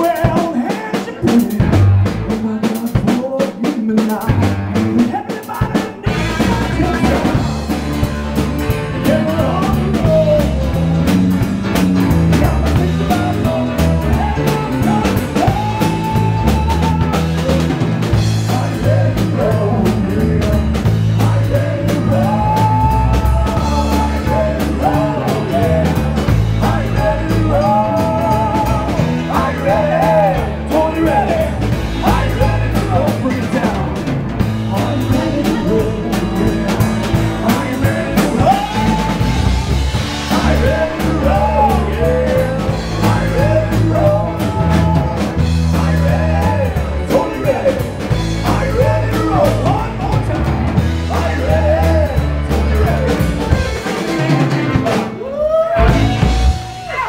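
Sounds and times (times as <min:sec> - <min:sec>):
bass guitar: 0:00.0 - 0:57.0
drum kit: 0:00.0 - 0:57.0
man singing: 0:00.0 - 0:57.0
electric guitar: 0:04.0 - 0:57.0.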